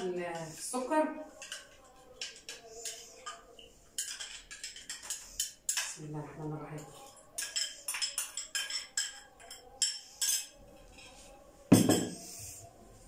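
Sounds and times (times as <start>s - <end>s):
metal spoon scraping glass bowl: 0.0s - 11.3s.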